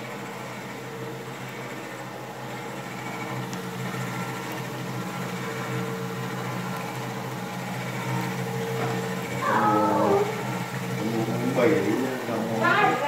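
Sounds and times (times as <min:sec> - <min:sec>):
machine motor hum and whine: 0:00.0 - 0:13.0.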